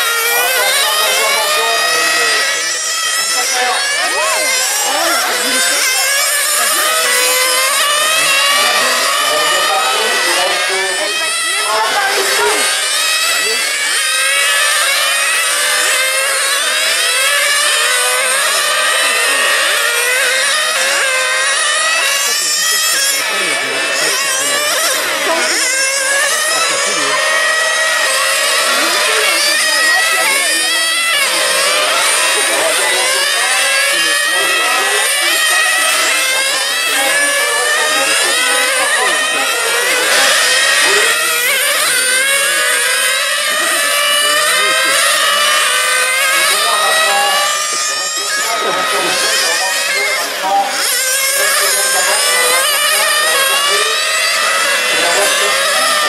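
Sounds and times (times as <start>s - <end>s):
rc car engines whining: 0.0s - 56.0s.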